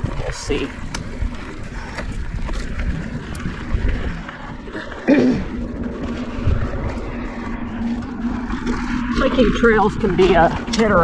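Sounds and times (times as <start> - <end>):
bike rattling: 0.0 - 11.0
bike tyre noise: 0.0 - 11.0
steady low hum: 0.0 - 11.0
wind buffeting microphone: 0.0 - 11.0.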